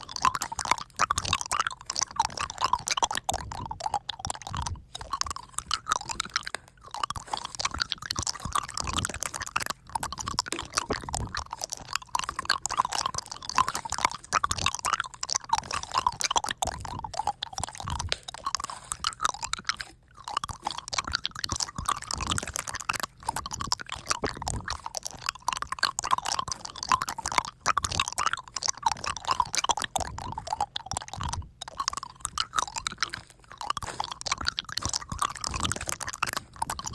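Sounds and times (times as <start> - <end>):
wet chewing mouth sounds: 0.0 - 36.9.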